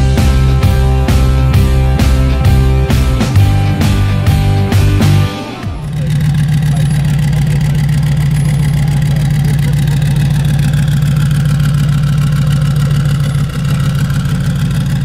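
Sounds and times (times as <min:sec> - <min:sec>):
unmuffled engine idling: 0:00.0 - 0:15.0.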